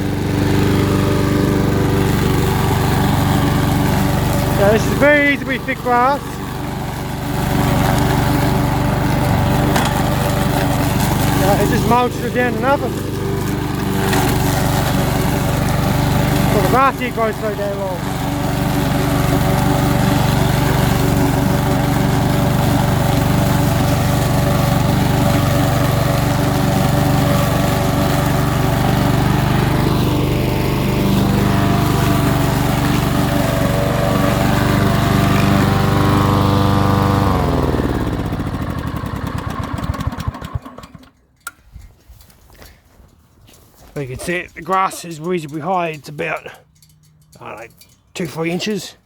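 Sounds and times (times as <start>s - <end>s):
lawn mower engine running: 0.0s - 41.8s, 44.0s - 49.0s.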